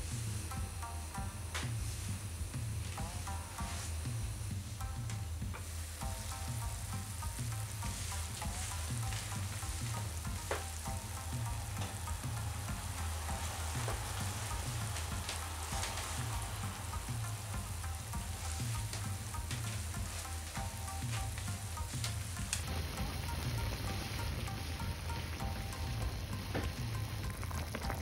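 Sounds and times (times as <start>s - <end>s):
background music with bass beat: 0.0s - 28.0s
broth boiling and bubbling: 0.0s - 28.0s.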